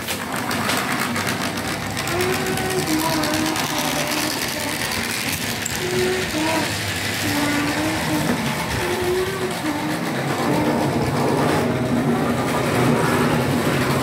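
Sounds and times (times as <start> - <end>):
wheels clicking on rails: 0.0 - 14.0
model locomotive motor whirring: 0.2 - 14.0.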